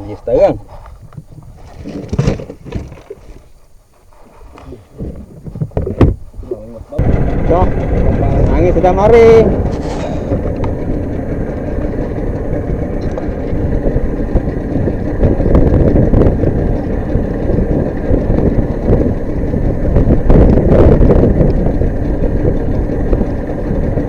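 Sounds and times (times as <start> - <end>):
boat engine rumble: 0.0 - 24.0
wind buffeting microphone: 4.7 - 24.0.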